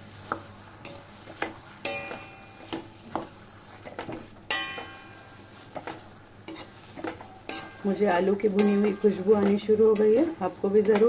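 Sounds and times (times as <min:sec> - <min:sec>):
light sizzle: 0:00.0 - 0:11.0
spatula scraping a pan: 0:00.0 - 0:11.0.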